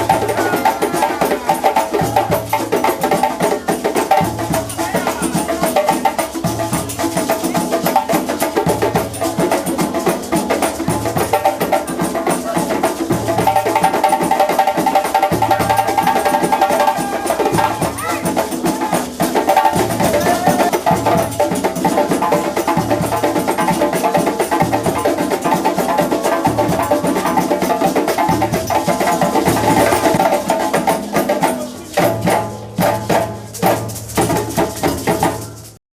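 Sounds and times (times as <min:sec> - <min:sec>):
fast drumming with clicking sticks: 0:00.0 - 0:35.8.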